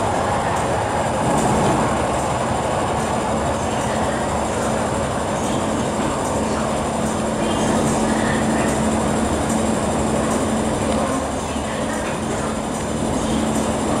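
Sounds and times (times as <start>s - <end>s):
faint hum: 0.0s - 14.0s
train rumbling in tunnel: 0.0s - 14.0s.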